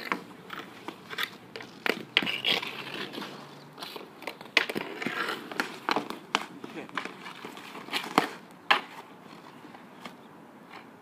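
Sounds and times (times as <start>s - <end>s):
hockey stick hitting ball: 0.0s - 9.1s
ball smacking goalie gear: 0.0s - 10.8s.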